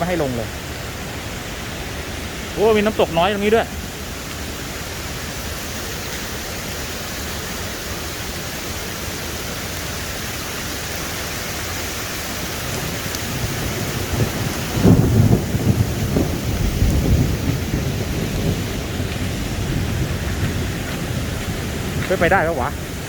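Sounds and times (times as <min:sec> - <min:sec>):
water rushing down waterfall: 0:00.0 - 0:23.0.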